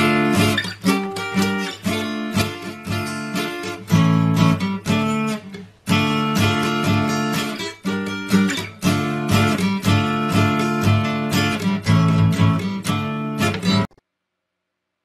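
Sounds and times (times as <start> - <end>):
acoustic guitar strummed: 0.0 - 13.9.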